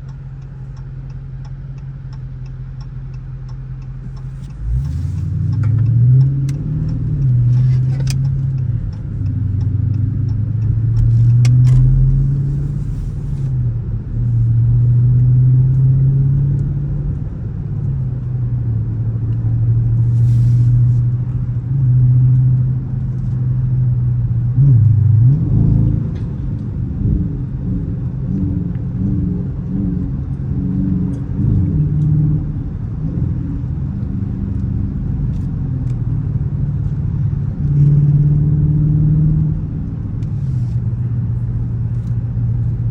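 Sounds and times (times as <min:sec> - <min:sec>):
car engine running at low revs: 0:00.0 - 0:42.9.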